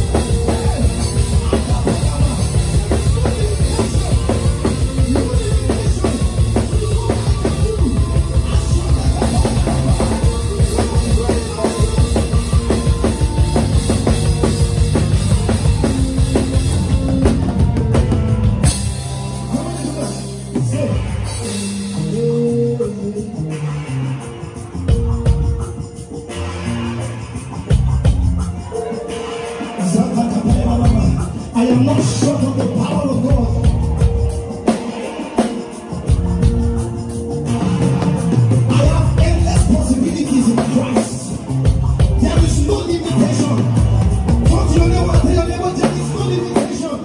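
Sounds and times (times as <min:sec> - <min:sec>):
drum kit: 0:00.0 - 0:47.0
live band playing: 0:00.0 - 0:47.0.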